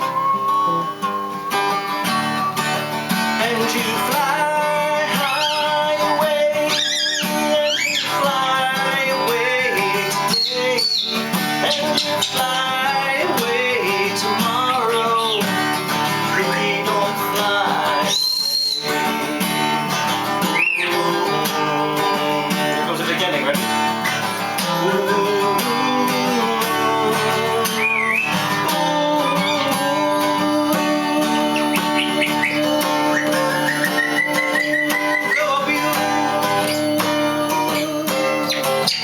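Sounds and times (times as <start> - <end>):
high whistling: 0.0 - 22.1, 24.0 - 39.0
acoustic guitar playing: 0.0 - 39.0.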